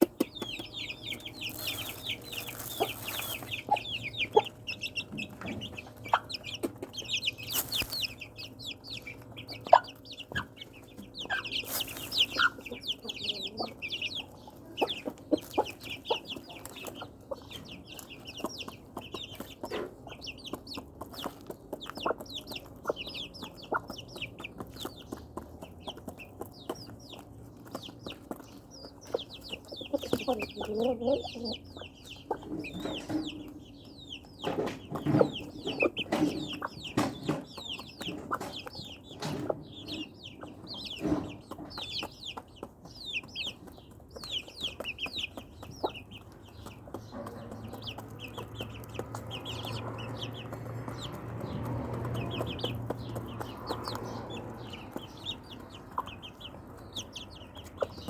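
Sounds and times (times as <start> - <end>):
chickens chirping: 0.0 - 58.0.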